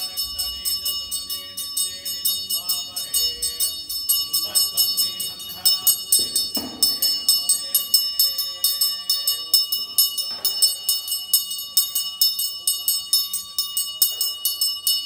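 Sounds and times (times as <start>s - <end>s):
handbell rung rapidly: 0.0s - 15.0s.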